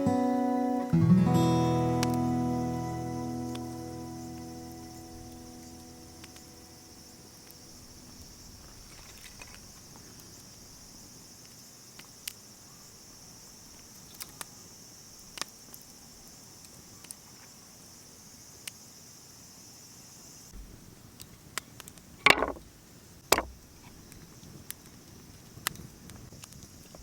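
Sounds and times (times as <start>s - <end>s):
campfire crackling: 0.9s - 18.8s, 20.5s - 27.0s
crickets trilling: 1.3s - 20.6s, 21.6s - 27.0s.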